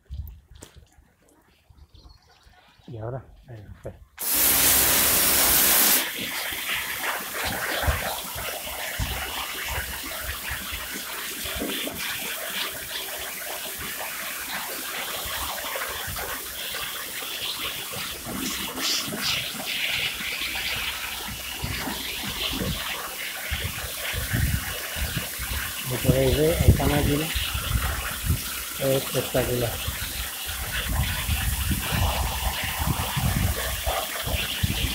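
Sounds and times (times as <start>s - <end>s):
pressure washer spraying water: 4.2s - 34.9s.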